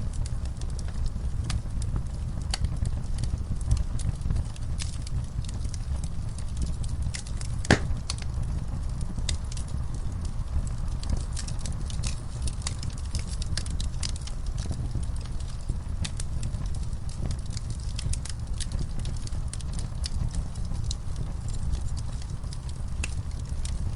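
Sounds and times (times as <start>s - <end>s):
low rumble of burning: 0.0s - 23.9s
wood fire crackling: 0.0s - 23.9s.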